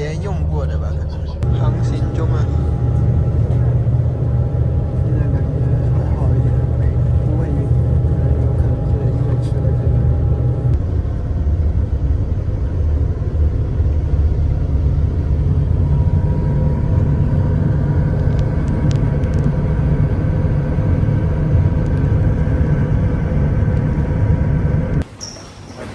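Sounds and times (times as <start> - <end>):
faint steady whine: 0.0 - 25.9
ferry engines rumbling: 0.0 - 25.9.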